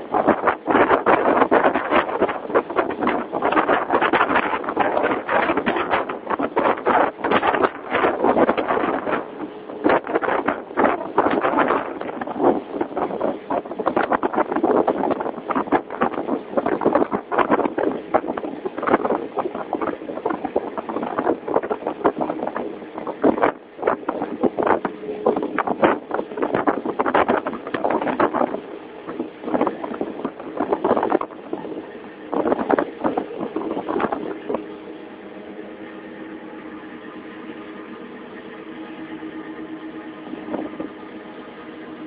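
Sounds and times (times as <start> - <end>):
boat engine humming: 0.0 - 42.0
wind buffeting microphone: 0.0 - 42.0.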